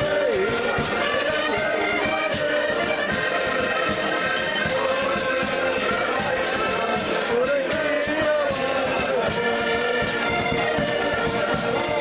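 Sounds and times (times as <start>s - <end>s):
accordions playing folk tune: 0.0s - 12.0s.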